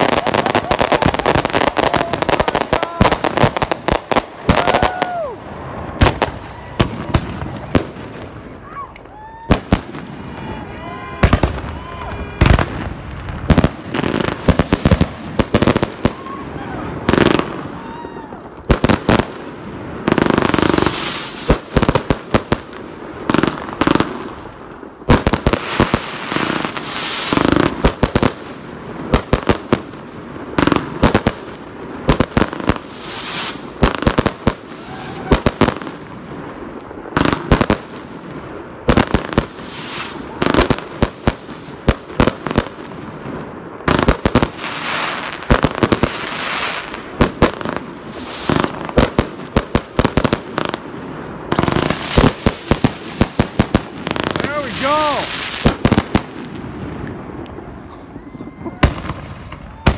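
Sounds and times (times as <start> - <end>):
aerial fireworks bursting: 0.0 - 59.9.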